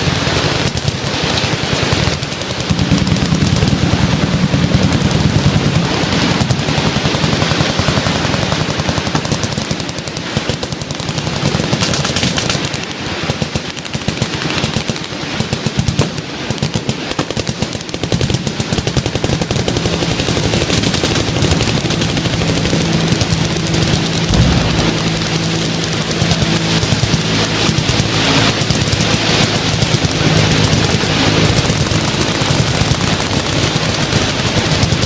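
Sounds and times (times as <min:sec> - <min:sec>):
machine-gun fire: 0:00.0 - 0:35.0.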